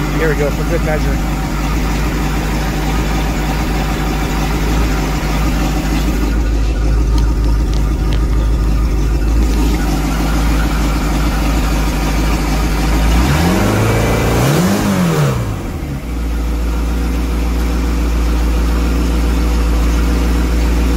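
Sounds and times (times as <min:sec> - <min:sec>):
boat engine running and revving: 0:00.0 - 0:20.9.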